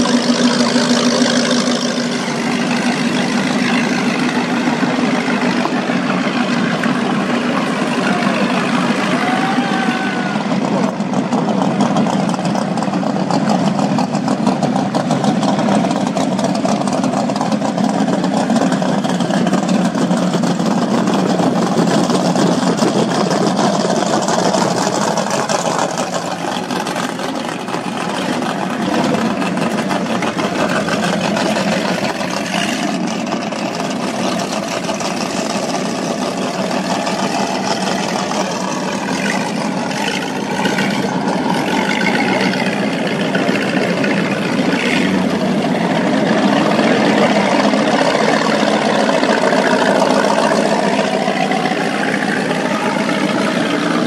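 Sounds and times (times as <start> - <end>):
outboard engines running: 0.0 - 54.0
water rushing along hulls: 0.0 - 54.0.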